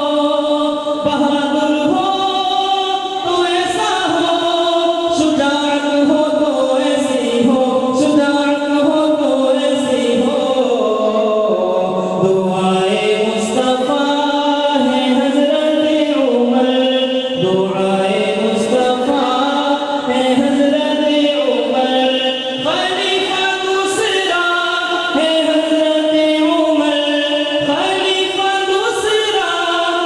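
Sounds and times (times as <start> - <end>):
man singing unaccompanied: 0.0 - 30.0.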